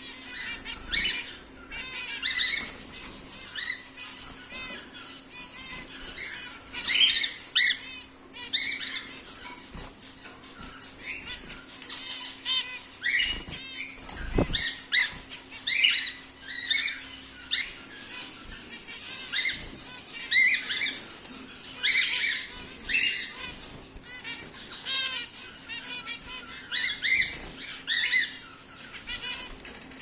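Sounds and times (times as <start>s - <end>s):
cockatiels chirping: 0.0s - 29.8s
faint steady hum: 0.0s - 30.0s.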